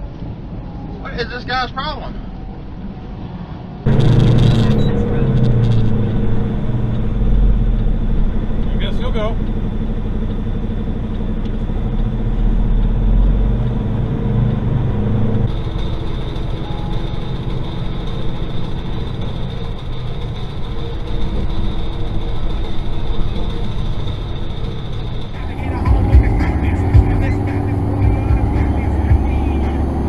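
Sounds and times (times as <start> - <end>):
steady high whine: 0.0 - 30.0
truck engine and road noise: 0.0 - 30.0.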